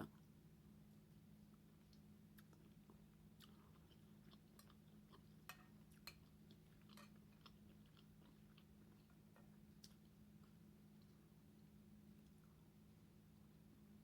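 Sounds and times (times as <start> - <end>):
faint chewing: 0.0 - 13.6
low steady hum: 0.0 - 14.0.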